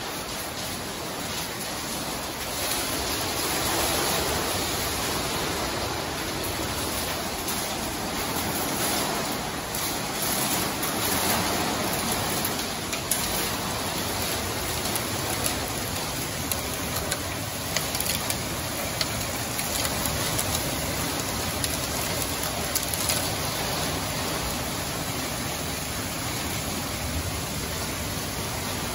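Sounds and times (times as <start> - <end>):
heavy rain rushing: 0.0 - 28.9
raindrops ticking on surfaces: 0.0 - 28.9.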